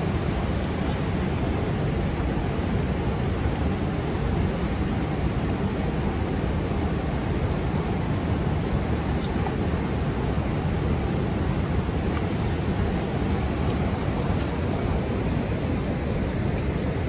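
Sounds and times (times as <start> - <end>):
fast-flowing water roaring: 0.0 - 17.0.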